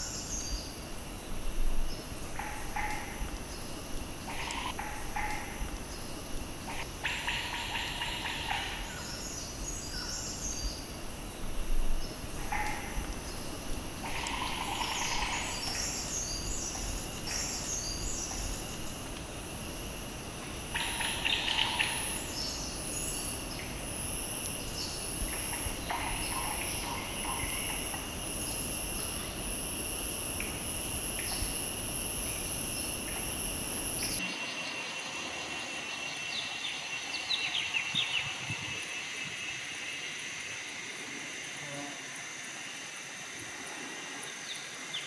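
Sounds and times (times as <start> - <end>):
insects buzzing in pulses: 0.0 - 45.0
steady insect trill: 0.0 - 45.0.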